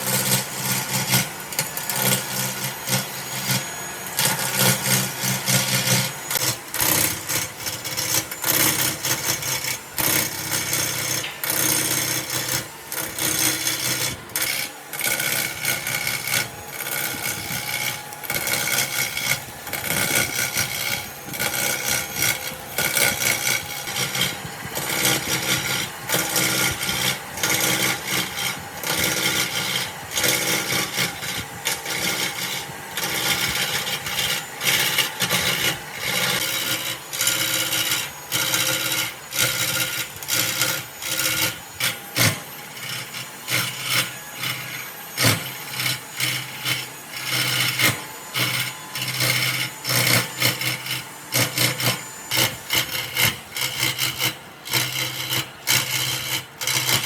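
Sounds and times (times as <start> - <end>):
hand tool scraping wood: 0.0 - 57.0.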